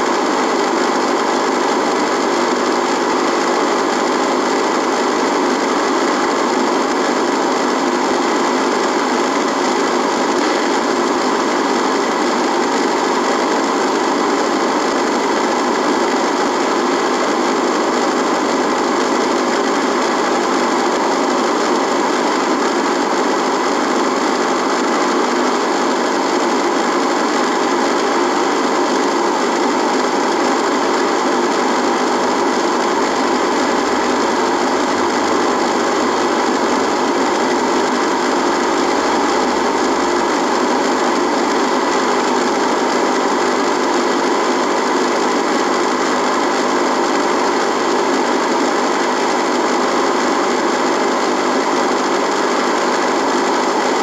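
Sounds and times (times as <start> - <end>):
radio electrical buzz: 0.0 - 54.0.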